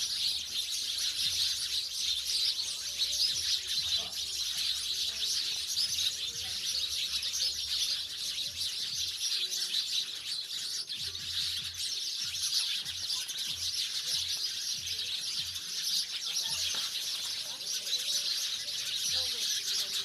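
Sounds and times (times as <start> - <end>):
sparrows chirping: 0.0 - 20.0.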